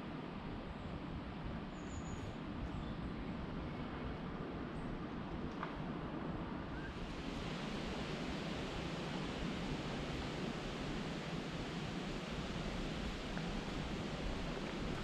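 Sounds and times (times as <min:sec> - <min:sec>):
wind noise on microphone: 0:00.6 - 0:15.0.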